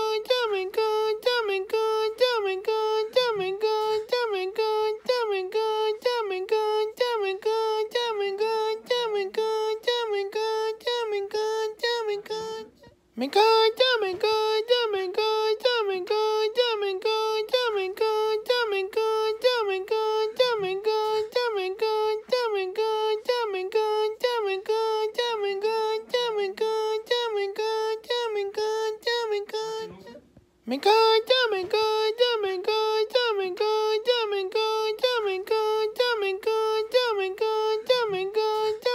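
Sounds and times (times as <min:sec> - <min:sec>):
high-pitched voice singing one note: 0:00.0 - 0:38.9.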